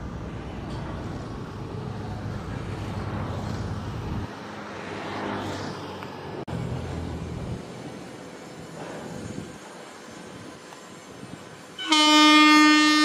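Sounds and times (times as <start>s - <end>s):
freight train roar and rumble: 0.0s - 13.0s.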